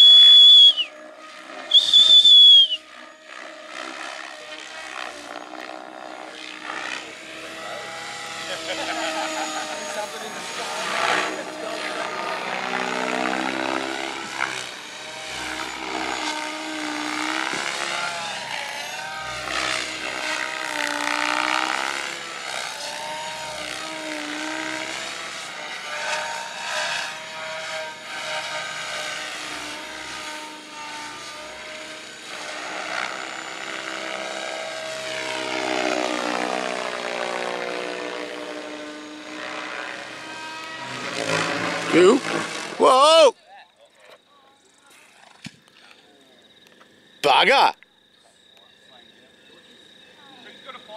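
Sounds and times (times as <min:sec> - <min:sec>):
rc helicopter rotor and motor whine: 0:00.0 - 0:43.4, 0:44.0 - 0:50.9.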